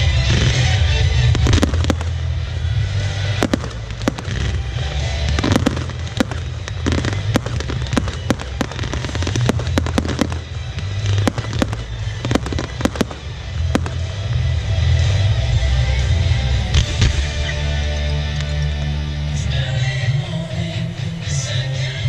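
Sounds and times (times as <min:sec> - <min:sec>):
fireworks bangs and crackles: 0:00.0 - 0:18.4.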